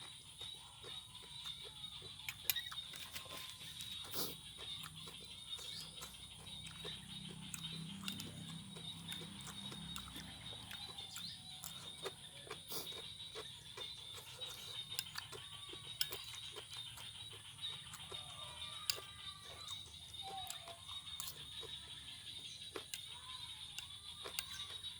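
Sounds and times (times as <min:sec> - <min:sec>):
chewing raw vegetables: 0:00.0 - 0:24.9.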